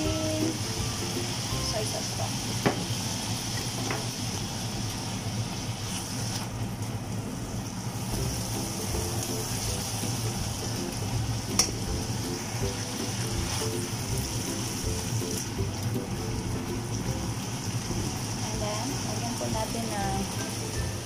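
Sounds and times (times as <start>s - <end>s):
meat sizzling in a pan: 0.0s - 21.0s.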